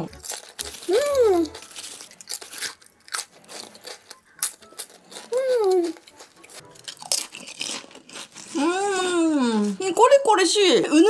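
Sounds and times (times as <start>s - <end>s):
potato chips being chewed: 0.0s - 9.8s.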